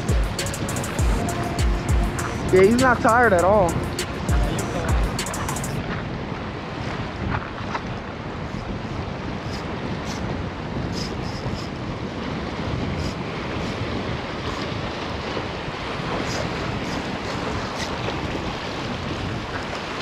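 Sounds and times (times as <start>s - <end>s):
surf washing: 0.0s - 20.0s
wind buffeting microphone: 0.0s - 20.0s.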